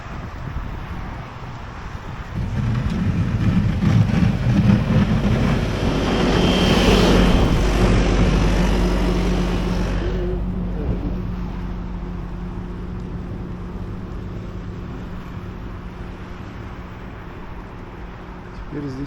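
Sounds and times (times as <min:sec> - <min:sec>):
cleaning machine engine humming: 0:02.4 - 0:18.2.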